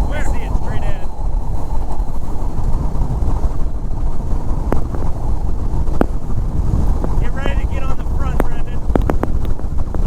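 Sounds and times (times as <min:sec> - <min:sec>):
boat motor rumbling: 0:00.0 - 0:10.0
wind buffeting microphone: 0:00.0 - 0:10.0.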